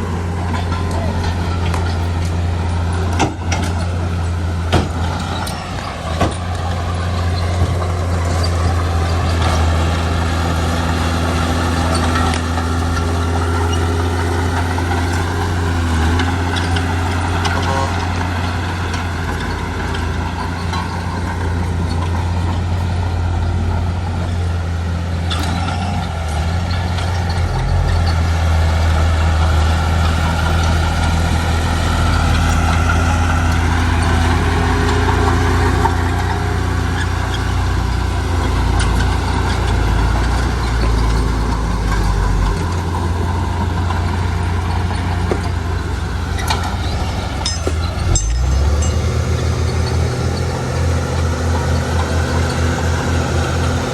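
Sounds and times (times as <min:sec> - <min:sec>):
metal clanks: 0:00.0 - 0:24.4, 0:25.2 - 0:53.9
heavy diesel machinery engine: 0:00.0 - 0:53.9.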